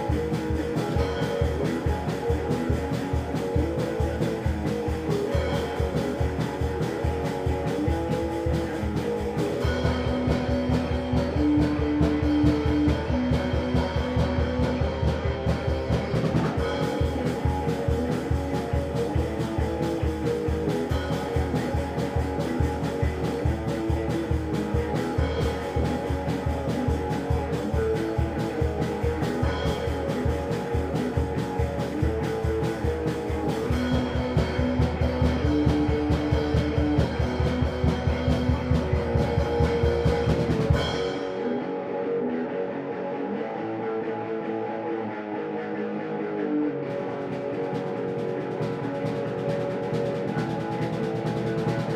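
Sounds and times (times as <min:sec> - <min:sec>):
drum kit fast beat: 0:00.0 - 0:41.6, 0:47.0 - 0:51.9
electric guitar: 0:00.0 - 0:51.9.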